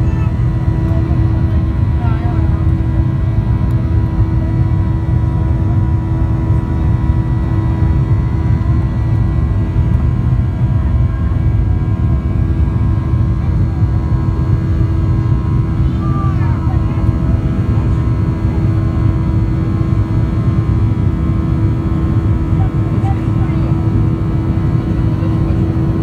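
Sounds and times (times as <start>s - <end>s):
airplane cabin rumble: 0.0s - 26.0s
jet engine whine: 0.0s - 26.0s.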